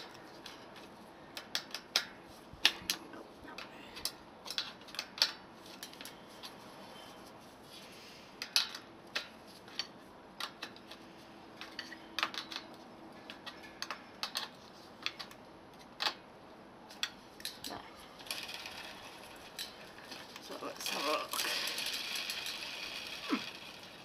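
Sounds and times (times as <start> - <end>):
metallic clicks of bicycle spokes: 0.0 - 6.5, 8.4 - 11.0, 11.6 - 16.3, 16.9 - 24.0.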